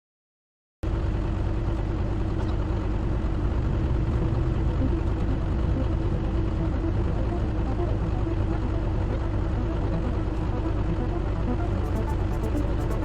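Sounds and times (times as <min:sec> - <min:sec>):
engine running with low rumble: 0:00.8 - 0:13.0.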